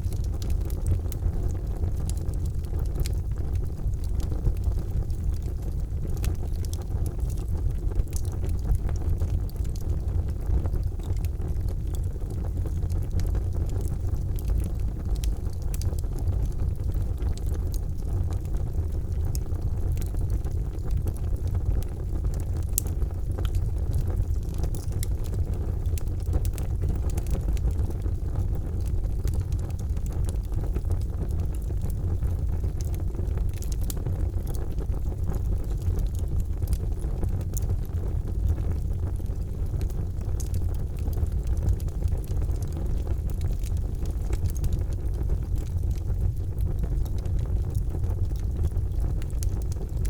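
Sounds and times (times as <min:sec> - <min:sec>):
charcoal fire crackling and popping: 0:00.0 - 0:50.0.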